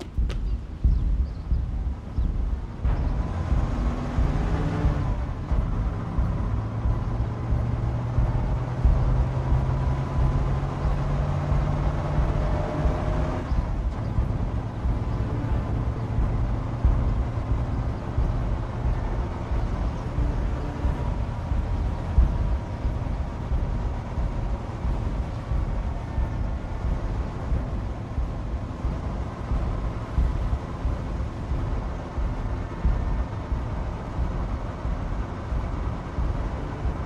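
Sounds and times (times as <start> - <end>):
road rumble: 0.0 - 37.0
vehicle engine running: 0.0 - 37.0.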